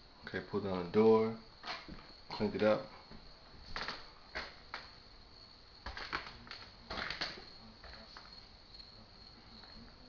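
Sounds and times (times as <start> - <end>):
faint high whine: 0.0 - 10.0.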